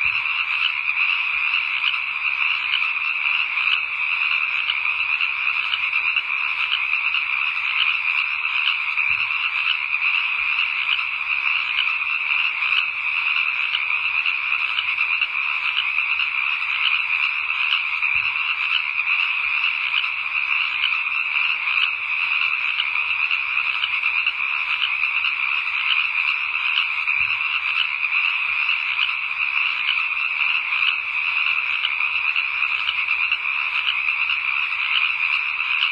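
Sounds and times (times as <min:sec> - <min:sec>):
chorus of frogs calling: 0:00.0 - 0:35.9.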